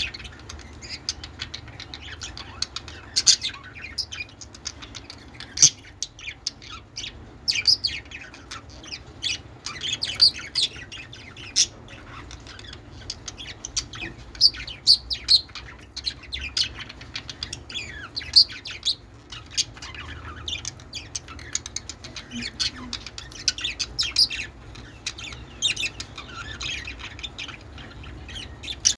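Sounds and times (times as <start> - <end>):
budgerigars chattering and chirping: 0.0 - 28.9.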